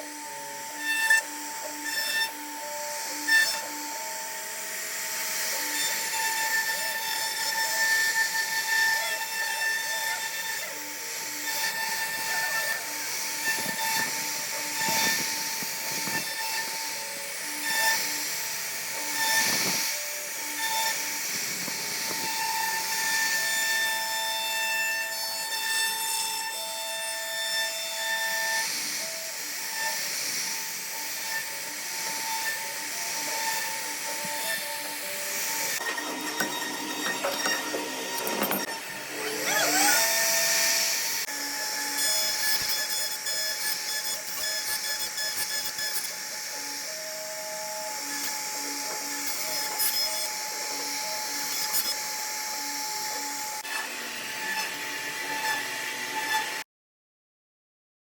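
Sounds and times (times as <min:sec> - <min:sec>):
bit cutting wood hiss: 0:00.0 - 0:53.6
router spindle whine: 0:00.0 - 0:56.6.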